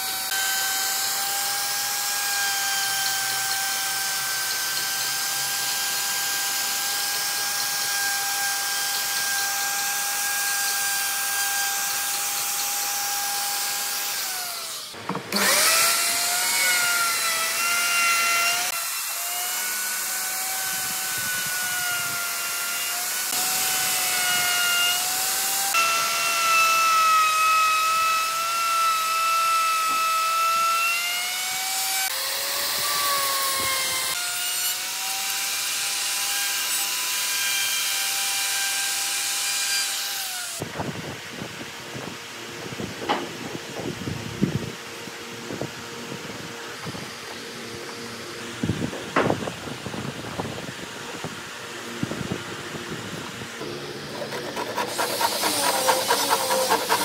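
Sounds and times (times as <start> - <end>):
power tool whining cutting wood: 0.0 - 40.7, 44.8 - 57.0.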